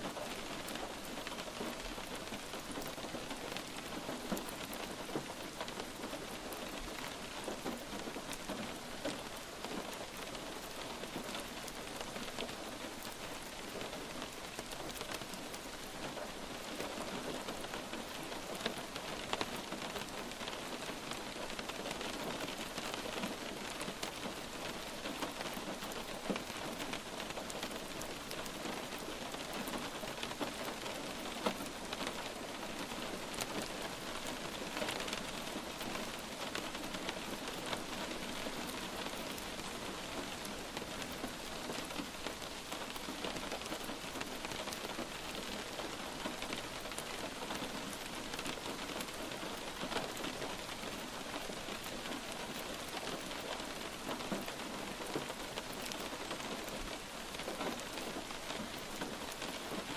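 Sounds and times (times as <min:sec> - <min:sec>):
light rain hissing: 0:00.0 - 0:59.9
raindrops hitting a surface: 0:00.0 - 0:59.9.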